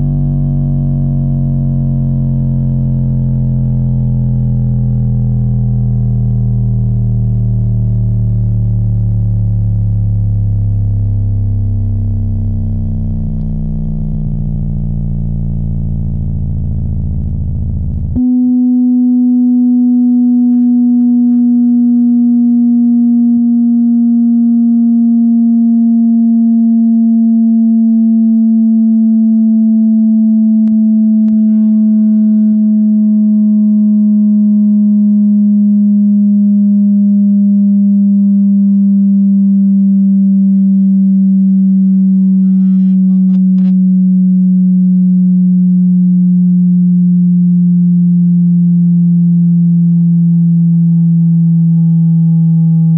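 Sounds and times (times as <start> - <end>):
bass-heavy music: 0.0 - 52.9
steady test tone gliding down: 0.0 - 52.9.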